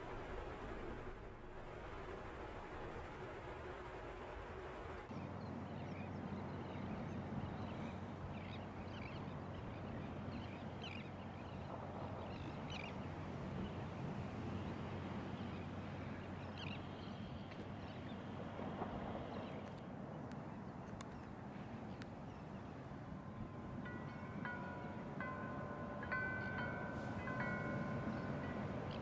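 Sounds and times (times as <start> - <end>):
low rush of beach noise: 0.0 - 29.0
distant bird calls: 5.1 - 29.0.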